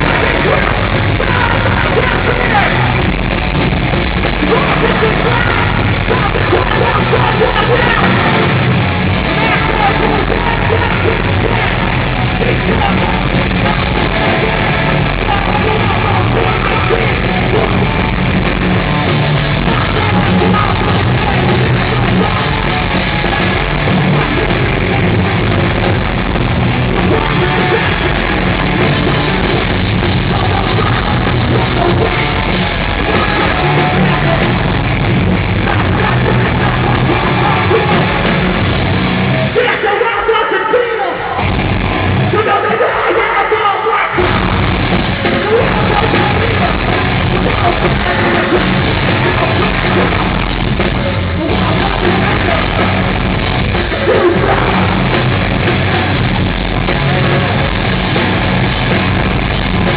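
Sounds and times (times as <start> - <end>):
shouted vocals: 0.0 - 3.2, 4.2 - 59.2
distorted guitars: 0.0 - 59.9
drums: 0.0 - 59.9.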